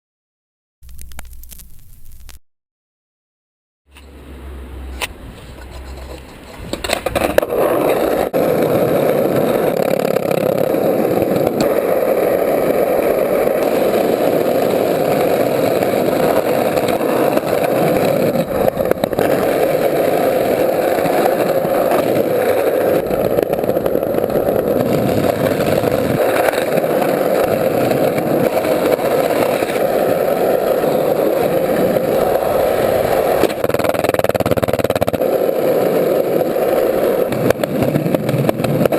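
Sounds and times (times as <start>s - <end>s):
city vehicle noise: 3.9s - 38.9s.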